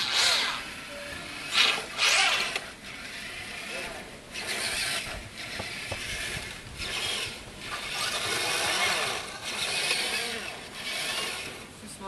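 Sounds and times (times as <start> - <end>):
toy truck motor whirring: 0.0 - 12.0
wheels churning through snow: 0.0 - 12.0.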